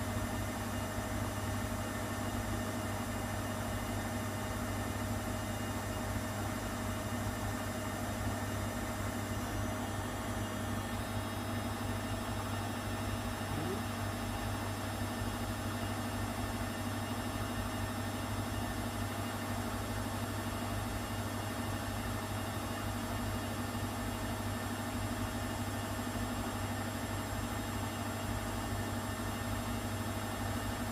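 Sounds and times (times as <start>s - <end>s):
washing machine humming: 0.0s - 30.9s.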